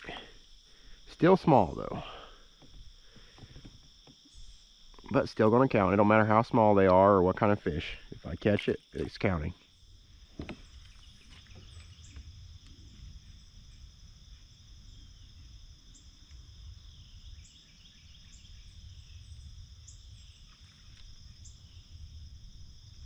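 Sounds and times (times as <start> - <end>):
high insect chorus: 0.0 - 23.0.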